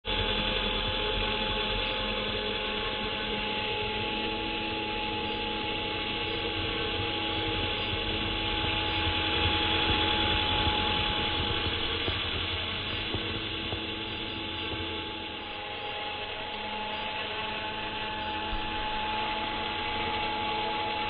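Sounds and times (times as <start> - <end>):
toy helicopter motors whining: 0.1 - 21.0.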